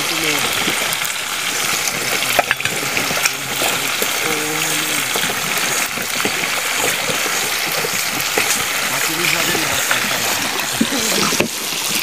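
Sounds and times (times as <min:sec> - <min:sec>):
fish deep-frying in oil: 0:00.0 - 0:12.0.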